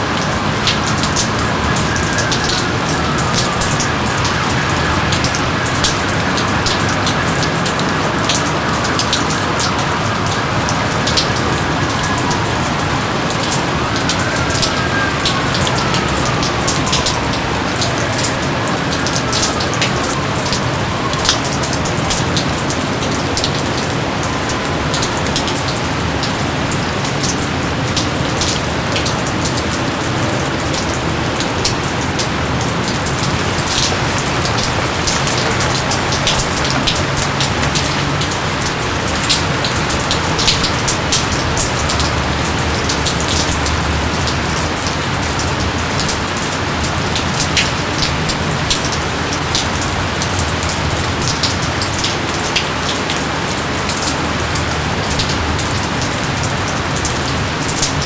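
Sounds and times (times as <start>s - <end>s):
raindrops ticking sharply: 0.0s - 58.0s
steady rain hiss: 0.0s - 58.0s.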